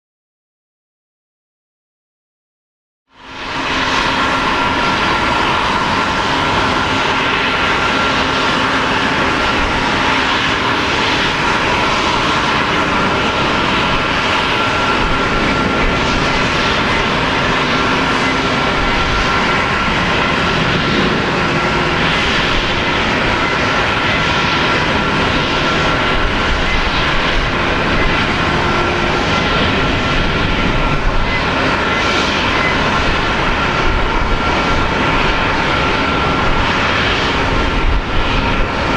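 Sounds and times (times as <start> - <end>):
jet engines running: 3.1 - 38.9.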